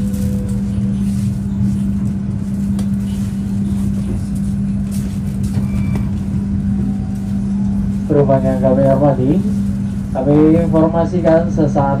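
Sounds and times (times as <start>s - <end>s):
constant low hum: 0.0s - 12.0s
train running gear rumble: 0.0s - 12.0s.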